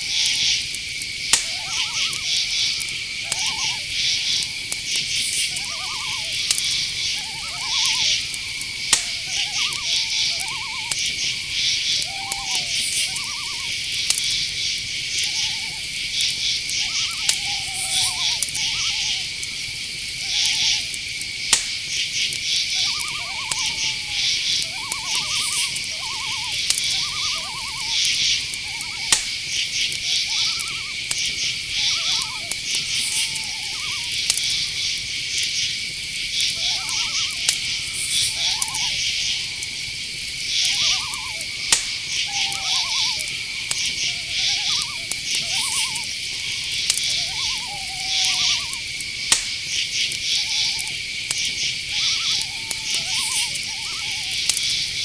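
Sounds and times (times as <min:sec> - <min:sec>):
insects chirping: 0:00.0 - 0:55.0
owl calls: 0:00.0 - 0:55.0
sharp clicks: 0:00.1 - 0:55.0.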